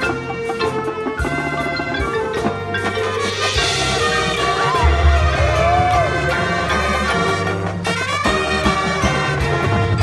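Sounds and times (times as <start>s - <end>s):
marching band playing: 0.0s - 10.0s.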